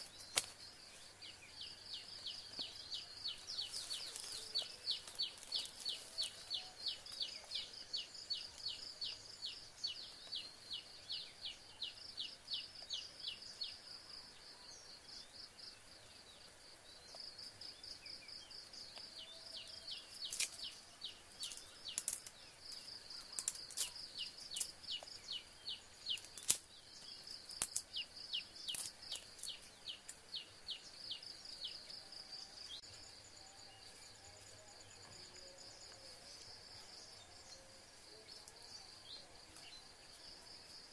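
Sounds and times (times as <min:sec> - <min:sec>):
insects humming: 0:00.0 - 0:40.9.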